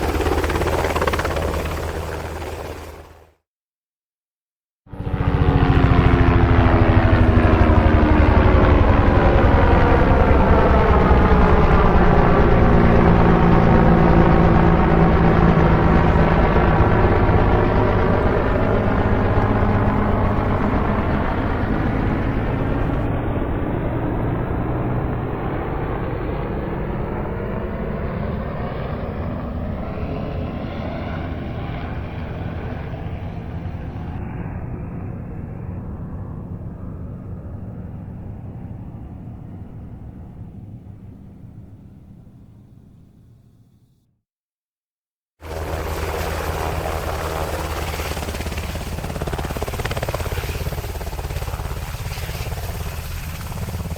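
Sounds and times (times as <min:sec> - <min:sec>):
helicopter rotor and engine: 0:00.0 - 0:03.4, 0:04.9 - 0:43.6, 0:45.4 - 0:53.9.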